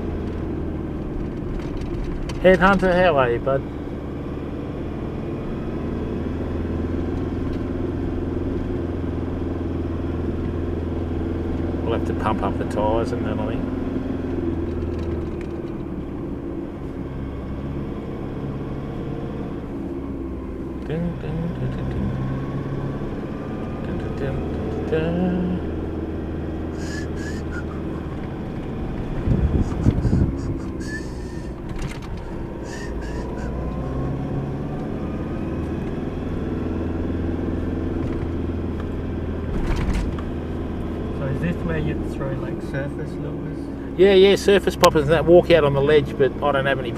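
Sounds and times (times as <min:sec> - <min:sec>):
road and tyre noise: 0:00.0 - 0:46.9
vehicle engine humming: 0:00.0 - 0:46.9.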